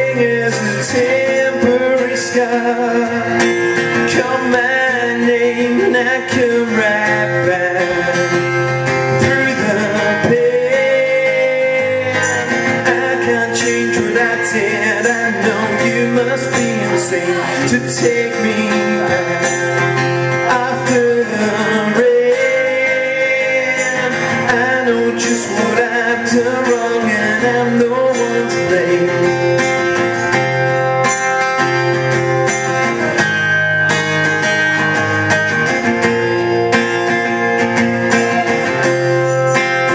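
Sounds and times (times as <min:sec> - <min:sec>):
man singing: 0:00.0 - 0:33.5, 0:34.8 - 0:39.9
strummed acoustic guitar: 0:00.0 - 0:39.9.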